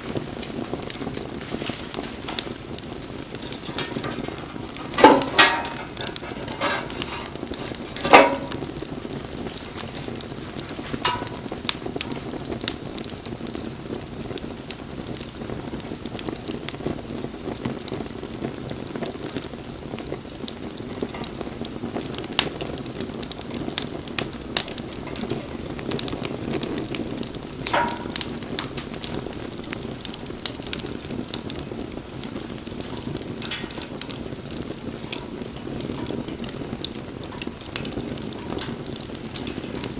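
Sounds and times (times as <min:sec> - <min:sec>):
fire crackles and pops: 0:00.0 - 0:39.9
rush of flame: 0:00.0 - 0:39.9.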